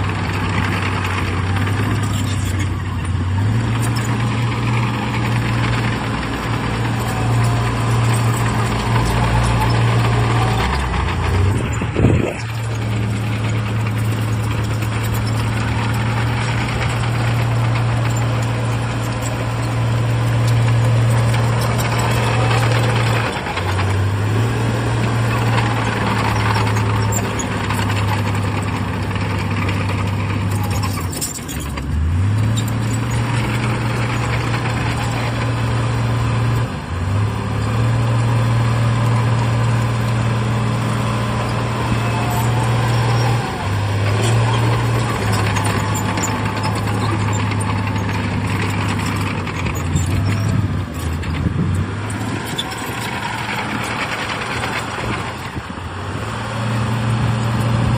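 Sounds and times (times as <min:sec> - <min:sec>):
heavy diesel engine revving: 0:00.0 - 0:57.9.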